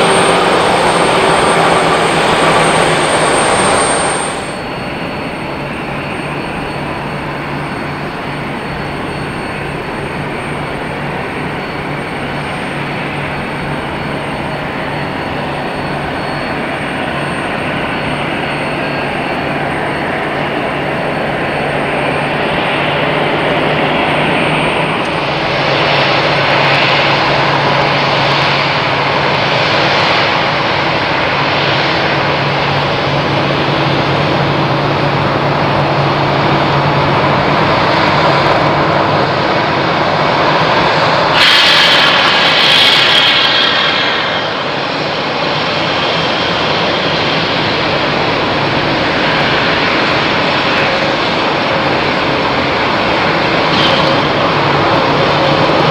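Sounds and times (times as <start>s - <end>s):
jet airliner engines roaring: 0.0s - 55.9s.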